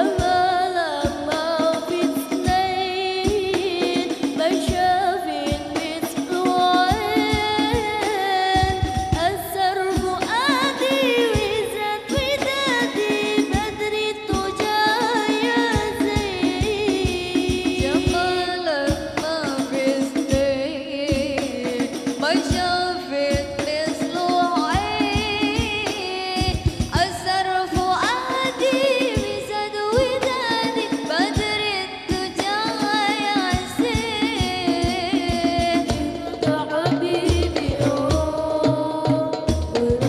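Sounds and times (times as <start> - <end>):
frame drums beating: 0.0 - 40.0
women singing devotional song: 0.0 - 40.0.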